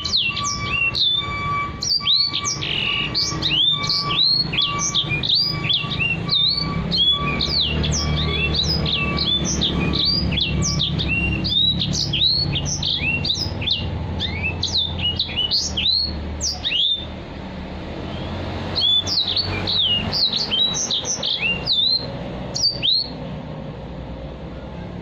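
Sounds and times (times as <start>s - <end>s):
bird singing whistled notes: 0.0s - 17.2s, 18.1s - 23.3s.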